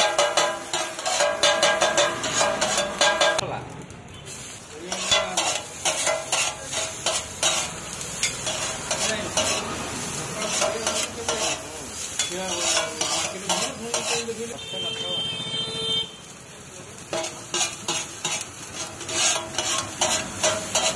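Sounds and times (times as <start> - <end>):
metal spatulas scraping a griddle: 0.0 - 3.4, 4.3 - 14.6, 17.0 - 20.9
frying sizzle: 0.0 - 20.9.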